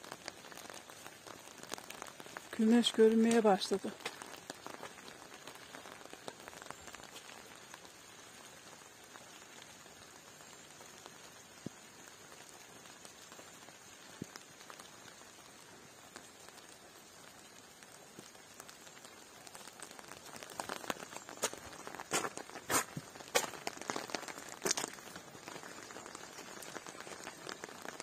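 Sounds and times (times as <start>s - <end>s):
light rain patter: 0.0s - 28.0s.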